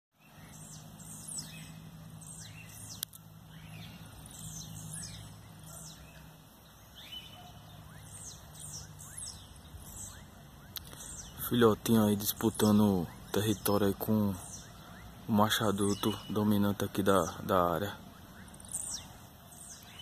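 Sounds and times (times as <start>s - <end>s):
birds singing high falling notes: 0.2s - 20.0s
low steady hum: 0.2s - 20.0s.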